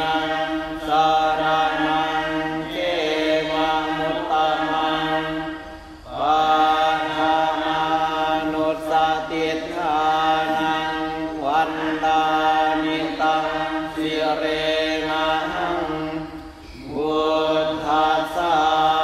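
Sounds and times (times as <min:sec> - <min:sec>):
group chanting: 0:00.0 - 0:19.0.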